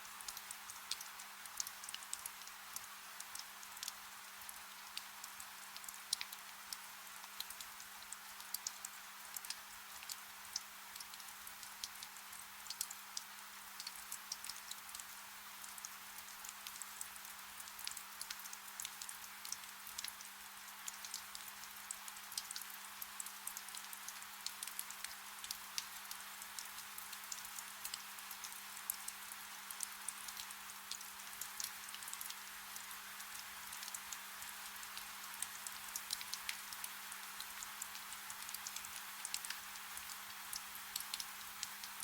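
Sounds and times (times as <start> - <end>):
soft steady rain: 0.0 - 42.0.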